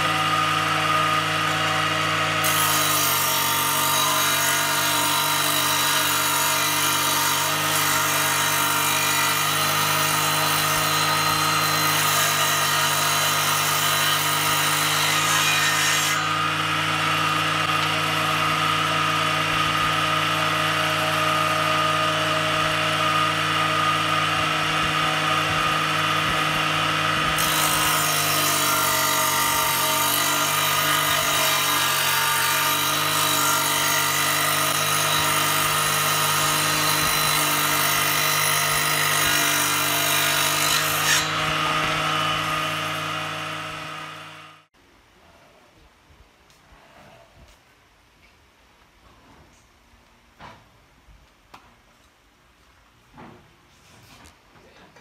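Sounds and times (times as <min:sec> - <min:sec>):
table saw cutting wood: 0:00.0 - 0:44.7.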